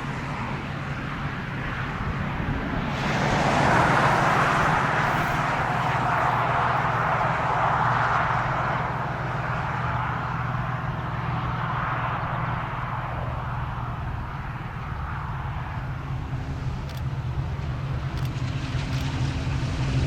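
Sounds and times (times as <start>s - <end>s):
freight train rolling by: 0.0s - 20.0s.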